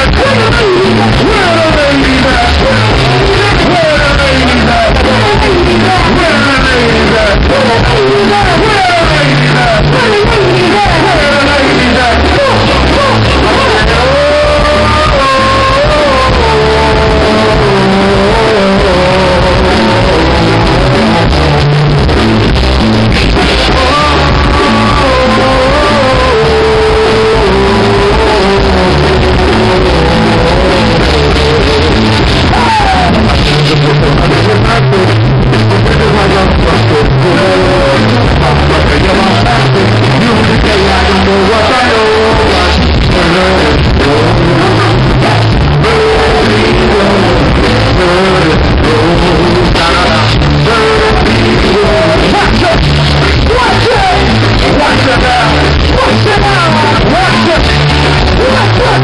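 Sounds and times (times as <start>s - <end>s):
bass line: 0.0s - 59.0s
live rock band playing: 0.0s - 59.0s
man singing into microphone: 0.0s - 59.0s.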